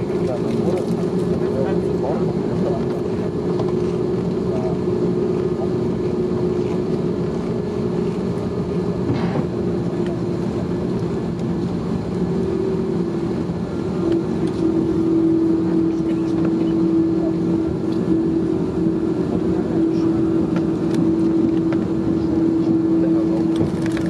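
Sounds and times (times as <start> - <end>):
jet engine drone in cabin: 0.0 - 24.0.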